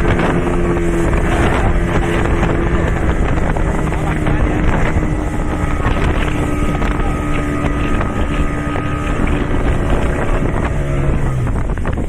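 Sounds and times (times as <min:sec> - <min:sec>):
motorboat engine running: 0:00.0 - 0:12.0
wind buffeting microphone: 0:00.0 - 0:12.0.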